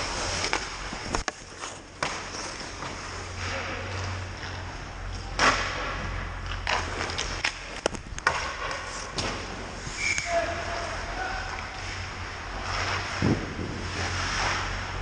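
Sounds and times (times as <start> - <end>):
hockey sticks and puck clacking: 0.0 - 13.2, 13.9 - 15.0.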